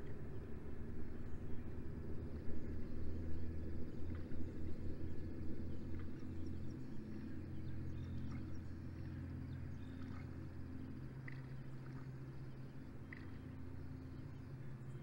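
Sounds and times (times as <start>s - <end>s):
distant boat motor drone: 0.0s - 15.0s.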